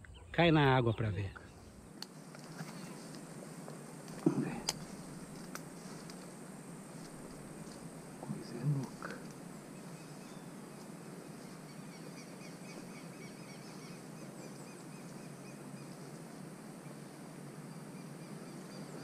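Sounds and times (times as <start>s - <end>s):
small birds chirping: 0.0s - 19.0s
steady background hiss: 0.0s - 19.0s.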